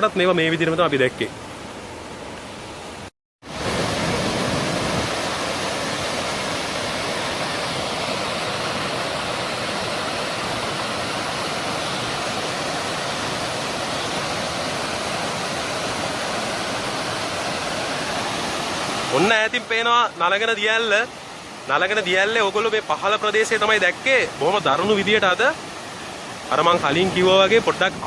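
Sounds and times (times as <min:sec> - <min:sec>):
waterfall rushing: 0:03.5 - 0:28.0.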